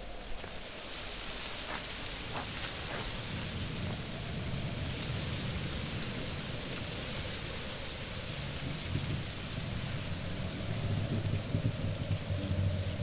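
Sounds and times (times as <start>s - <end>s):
rain-like rushing hiss: 0.0s - 13.0s.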